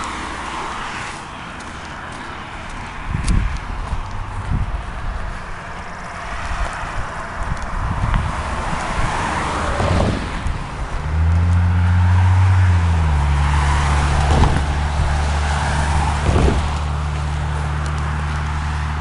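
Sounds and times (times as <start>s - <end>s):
footsteps on gravel: 0.0s - 12.1s, 13.8s - 19.0s
vehicle engine hum: 0.0s - 19.0s.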